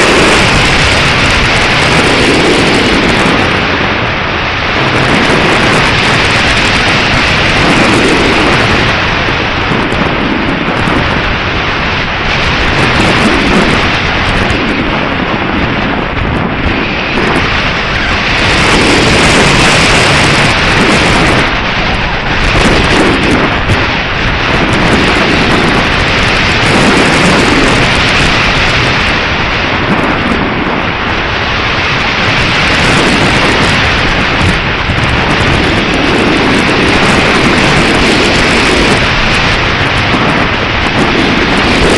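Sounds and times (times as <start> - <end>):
gusty wind buffeting microphone: 0.0 - 41.9.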